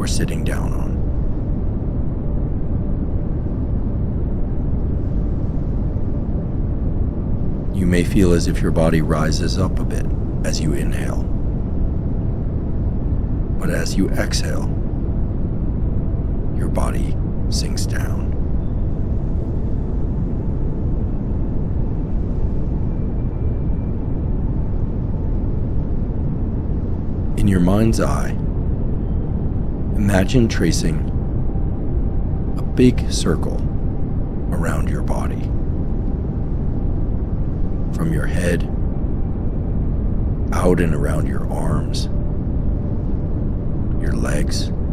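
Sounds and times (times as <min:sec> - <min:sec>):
pink noise: 0:00.0 - 0:44.9.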